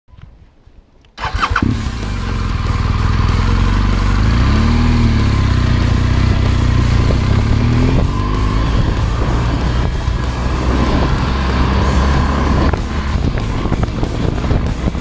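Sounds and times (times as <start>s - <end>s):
music: 1.2s - 15.0s
motorcycle engine running: 1.4s - 15.0s.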